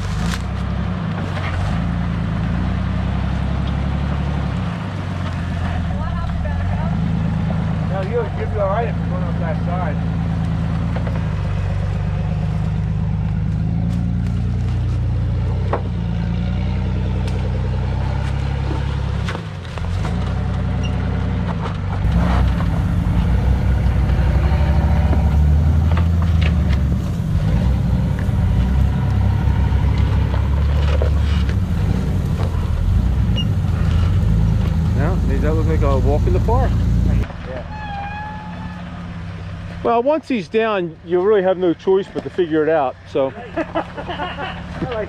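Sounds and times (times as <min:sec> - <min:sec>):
engine running at low revs: 0:00.0 - 0:37.6.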